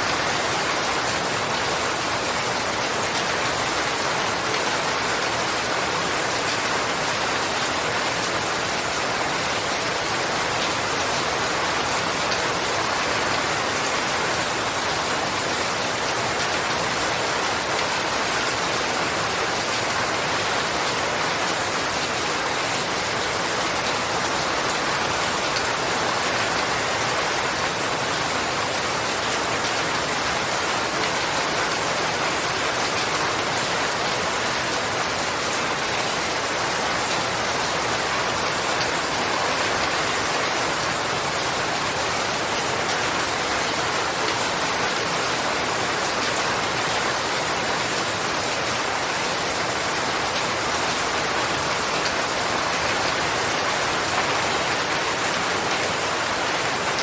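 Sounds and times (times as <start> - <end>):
rain pattering on surfaces: 0.0 - 57.0.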